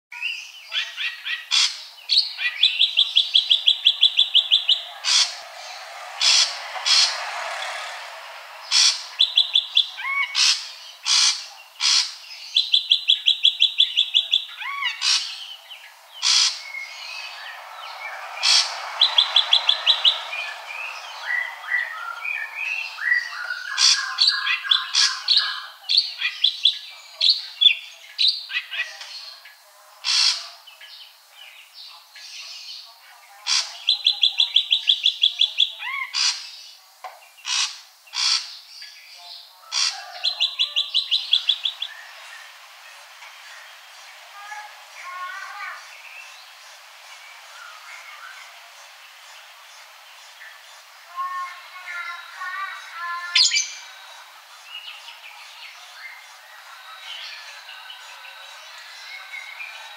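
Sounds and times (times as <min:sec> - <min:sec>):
bird whistled calls and chatter: 0:00.2 - 0:07.6, 0:08.6 - 0:59.9.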